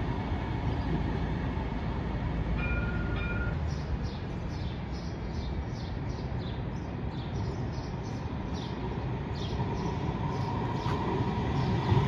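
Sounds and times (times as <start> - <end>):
low city street rumble: 0.0 - 12.0.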